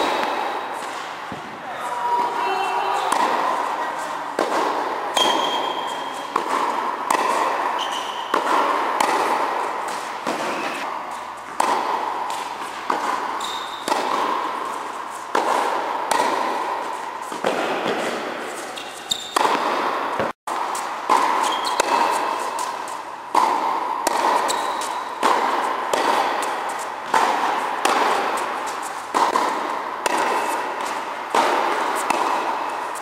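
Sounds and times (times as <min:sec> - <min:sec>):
tennis racket hitting ball: 0:00.0 - 0:01.6, 0:02.2 - 0:33.0
indoor hall echo: 0:00.0 - 0:33.0.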